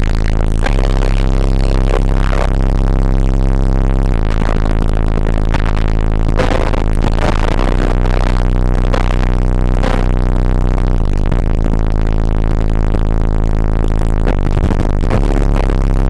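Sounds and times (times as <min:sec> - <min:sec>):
bass-heavy music from car stereo: 0:00.0 - 0:16.0.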